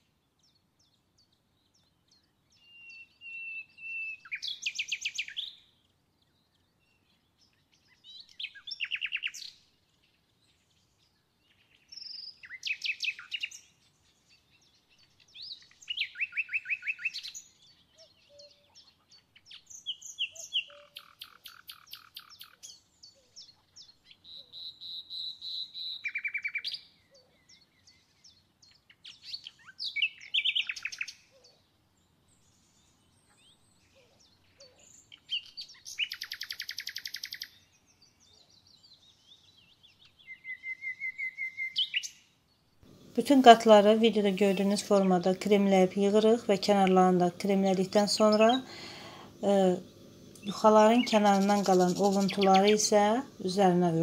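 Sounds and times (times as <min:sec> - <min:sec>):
songbird chirps and trills: 0:00.0 - 0:54.0.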